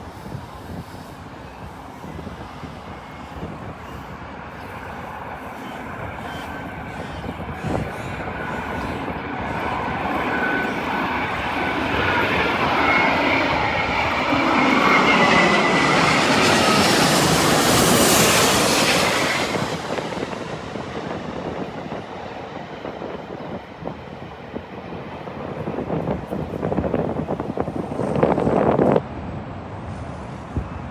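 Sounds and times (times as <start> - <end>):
jet airliner engines whining: 0.0 - 30.9.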